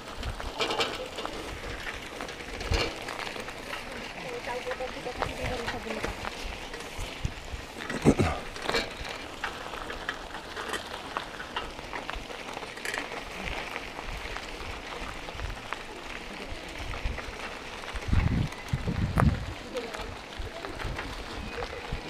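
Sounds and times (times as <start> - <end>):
bike rolling over rough road: 0.0 - 22.0.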